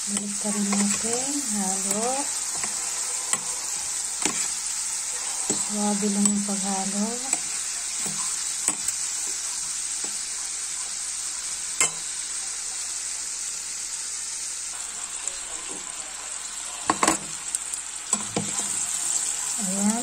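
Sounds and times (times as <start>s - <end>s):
chicken deep-frying sizzle: 0.0s - 20.0s.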